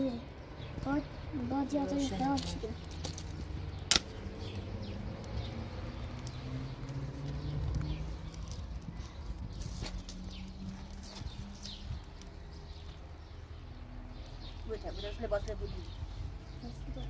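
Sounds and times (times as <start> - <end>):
low fire rumble: 0.0 - 17.0
straw burning with crackles: 0.0 - 17.0.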